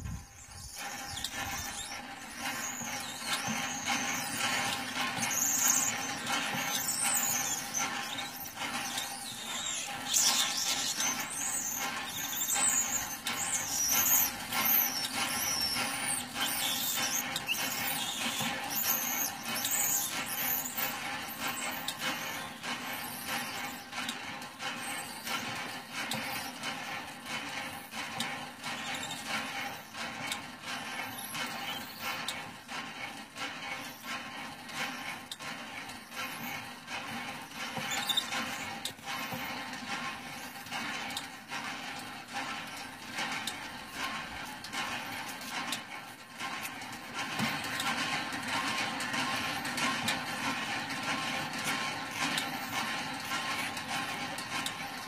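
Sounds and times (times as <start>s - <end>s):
hand pump squeaking and knocking: 0.0s - 55.0s.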